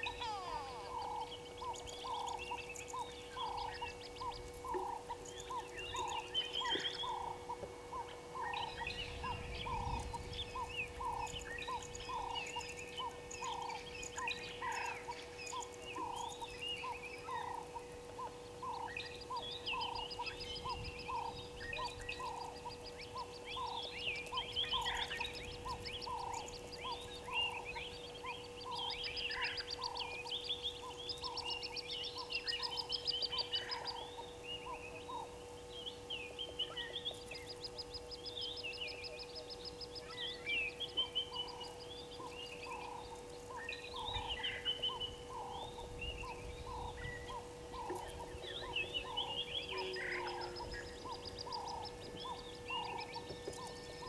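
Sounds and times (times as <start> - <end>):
faint steady hum: 0.0 - 54.0
wild birds chirping: 0.0 - 54.0.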